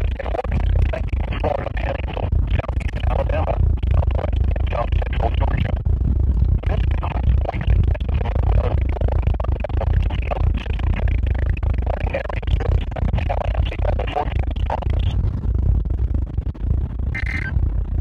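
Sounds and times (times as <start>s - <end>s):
distorted radio broadcast: 0.0s - 5.8s, 6.6s - 15.2s, 17.1s - 17.6s
heavy low hum: 0.0s - 18.0s.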